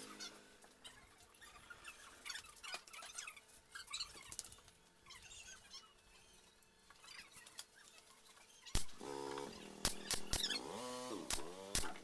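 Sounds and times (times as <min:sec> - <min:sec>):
small birds chirping: 0:00.0 - 0:10.7.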